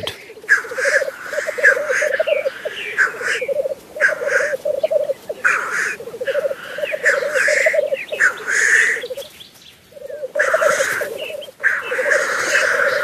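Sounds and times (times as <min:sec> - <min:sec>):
grouse bubbling cooing song: 0:00.0 - 0:09.3, 0:09.9 - 0:13.0
grouse short hissing calls: 0:00.0 - 0:09.3, 0:09.9 - 0:13.0.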